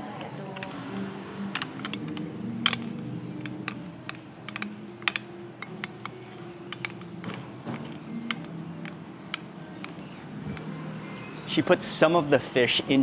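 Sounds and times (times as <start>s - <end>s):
utensils tapping dishes: 0.0s - 11.5s.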